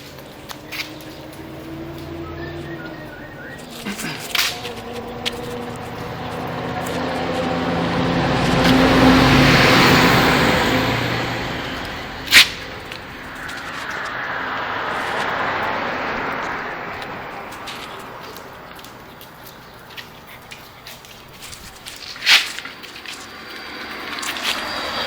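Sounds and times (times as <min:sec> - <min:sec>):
motor vehicle passing by: 0:00.0 - 0:25.0.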